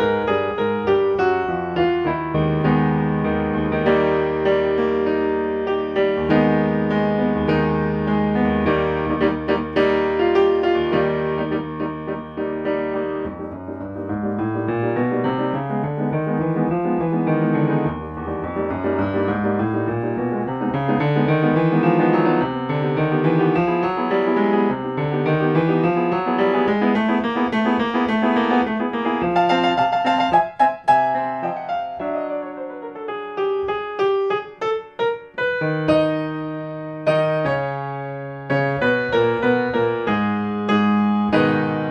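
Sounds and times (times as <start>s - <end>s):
lively piano music: 0.0s - 41.9s.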